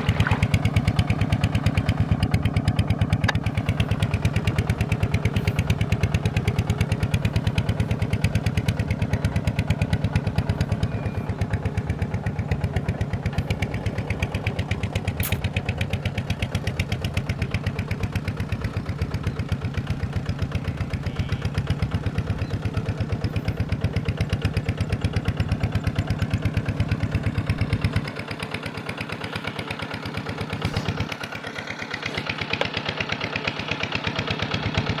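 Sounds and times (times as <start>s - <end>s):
farm machine engine running: 0.0s - 35.0s.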